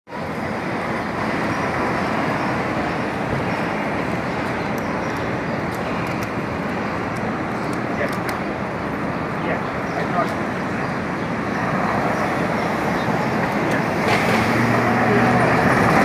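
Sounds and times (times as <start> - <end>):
city street traffic: 0.1 - 16.0.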